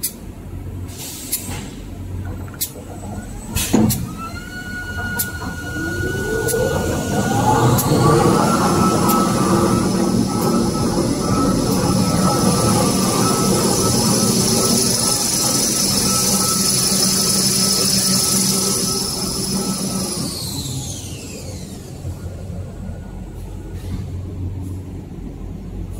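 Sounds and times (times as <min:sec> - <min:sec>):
rewinding machine whine: 0:02.0 - 0:23.8.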